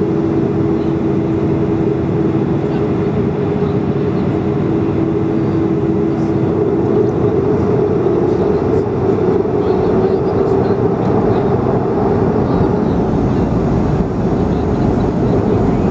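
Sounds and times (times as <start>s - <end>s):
jet engines droning in cabin: 0.0s - 15.9s.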